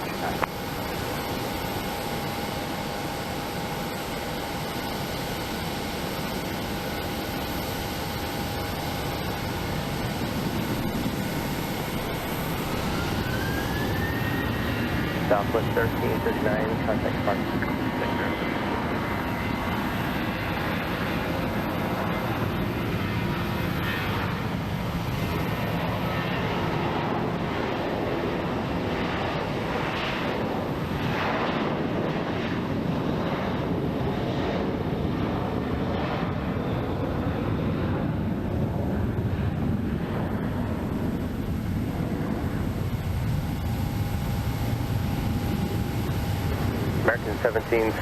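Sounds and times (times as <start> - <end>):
jet engines running: 0.0 - 48.0.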